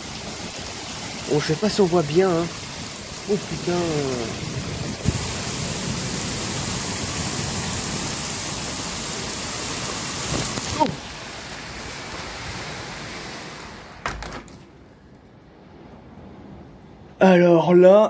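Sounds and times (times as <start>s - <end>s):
heavy rain pouring: 0.0s - 15.2s.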